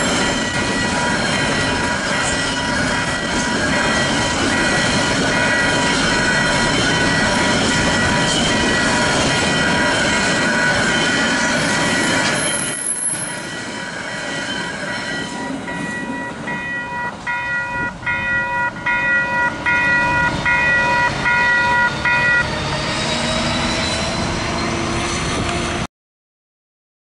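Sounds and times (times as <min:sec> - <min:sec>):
level-crossing bells ringing: 0:00.0 - 0:22.5
train wheels on rails: 0:00.0 - 0:25.9.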